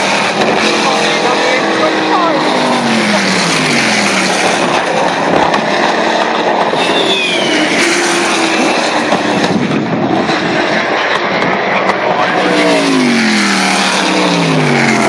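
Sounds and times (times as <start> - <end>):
racing cars passing at speed: 0.0 - 15.0.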